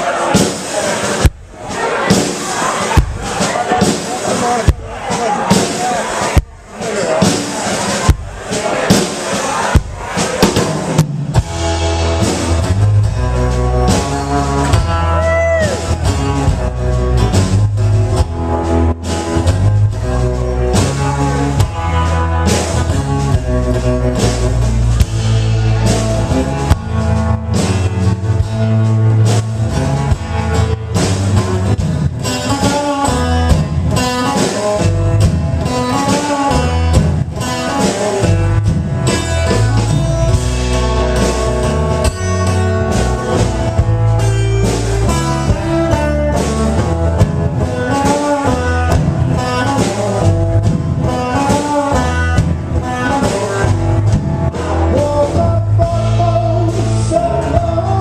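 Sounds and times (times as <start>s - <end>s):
live blues band playing: 0.0s - 58.0s.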